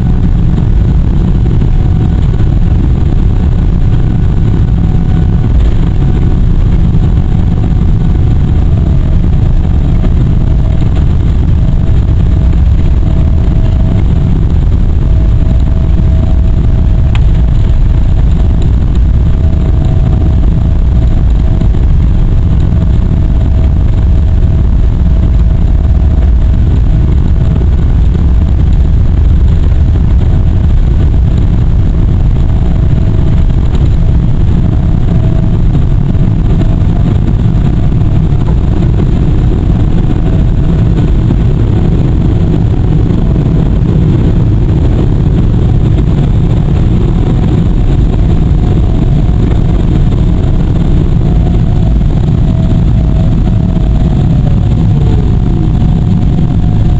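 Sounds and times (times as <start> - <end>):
jet engine roar and whine: 0.0 - 56.9
wheels rumbling on runway: 0.0 - 56.9.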